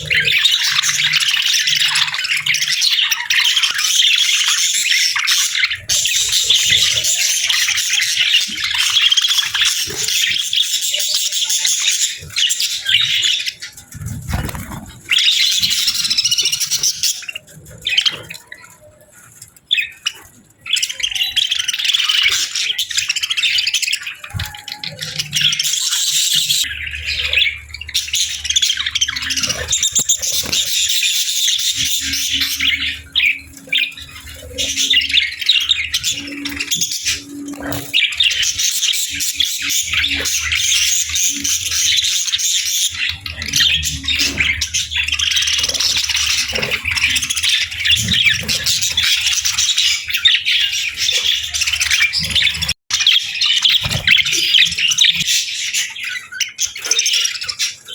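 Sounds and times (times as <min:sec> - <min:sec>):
budgerigars chattering and chirping: 0:00.0 - 0:57.9.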